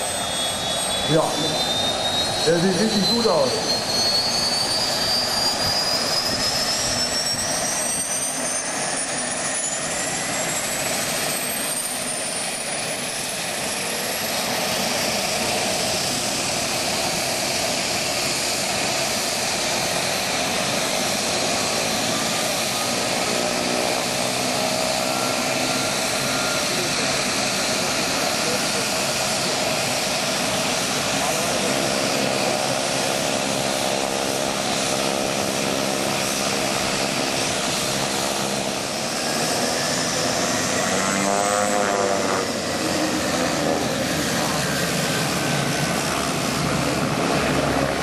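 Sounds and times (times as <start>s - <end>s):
turbine whine rising: 0.0s - 48.0s
turboprop engine idling: 0.0s - 48.0s.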